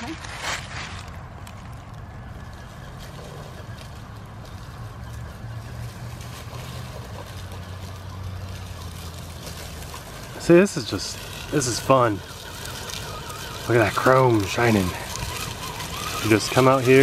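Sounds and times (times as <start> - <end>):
leaves crunching under tyres: 0.0 - 17.0.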